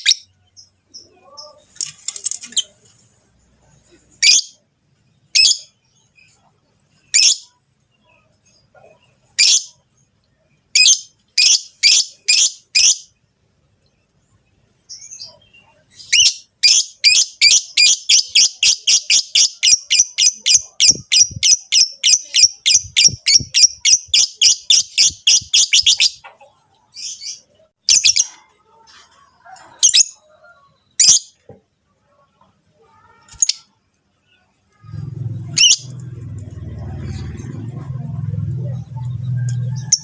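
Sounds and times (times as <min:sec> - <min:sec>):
lovebirds chirping: 0:00.0 - 0:13.2, 0:13.8 - 0:31.8, 0:32.8 - 0:40.0.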